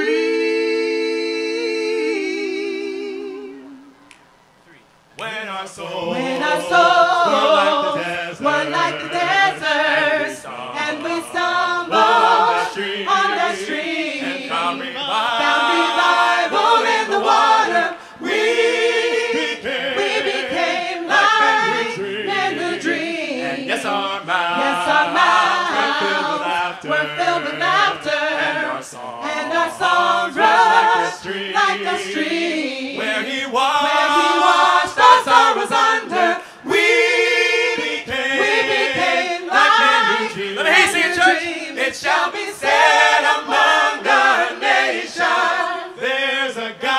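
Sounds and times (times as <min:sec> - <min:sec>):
a cappella voices singing in harmony: 0:00.0 - 0:04.3, 0:05.2 - 0:46.9.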